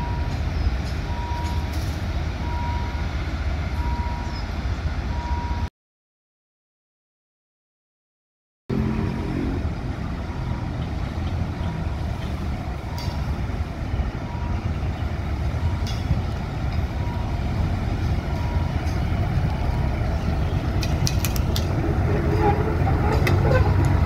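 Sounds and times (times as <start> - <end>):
locomotive diesel engine rumbling: 0.0 - 5.7, 8.7 - 24.0.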